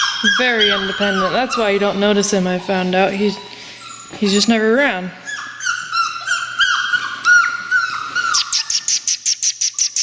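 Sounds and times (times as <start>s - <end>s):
puppies whining: 0.0s - 10.0s.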